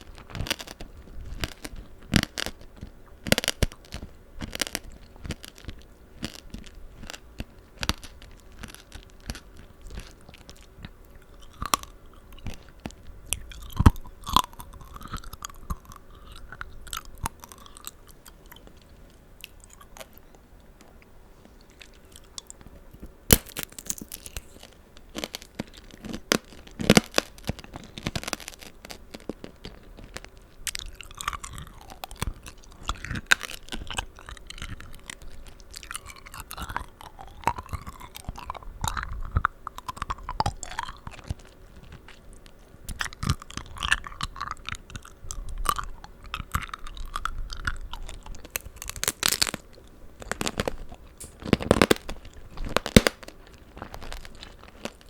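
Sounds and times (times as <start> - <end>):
crunchy candy chewing: 0.0 - 55.0.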